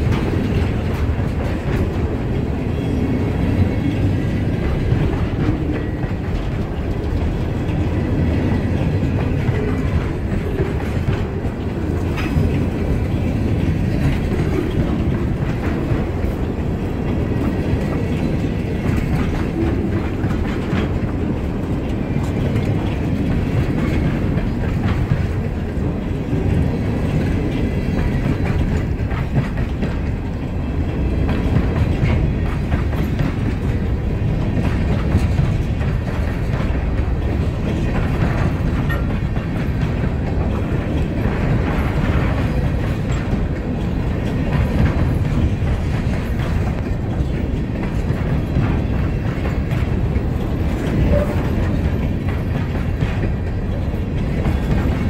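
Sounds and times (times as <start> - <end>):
freight train rumbling: 0.0 - 55.0
wheels clacking on rail joints: 0.0 - 55.0.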